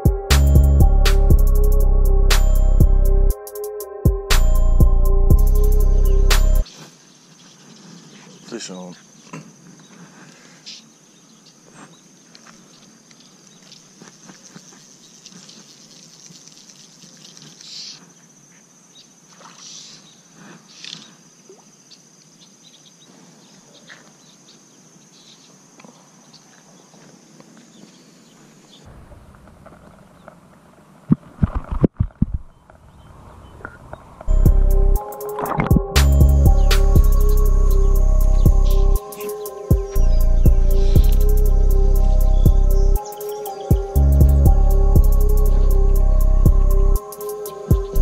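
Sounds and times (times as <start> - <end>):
insects droning: 0.0 - 31.0, 33.0 - 48.0.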